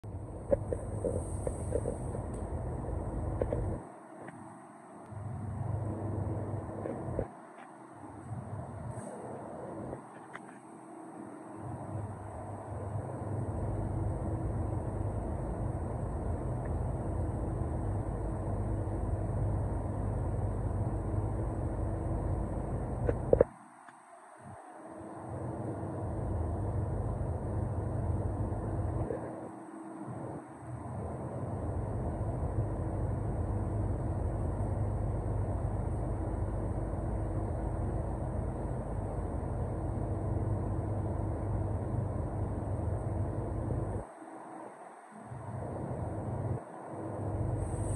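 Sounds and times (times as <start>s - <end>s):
faint constant hum: 0.0s - 47.9s
ventilation rumble: 0.0s - 47.9s.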